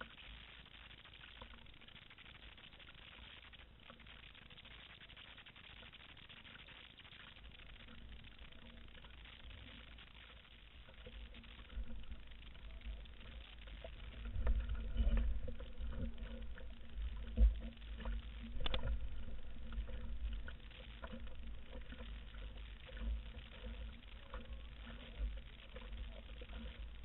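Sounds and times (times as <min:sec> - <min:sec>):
water sounds: 0:00.0 - 0:27.0.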